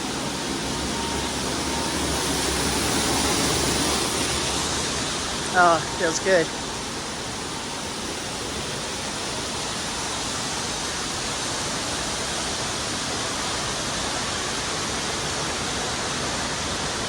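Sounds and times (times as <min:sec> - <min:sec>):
indoor waterfall rushing: 0:00.0 - 0:17.0.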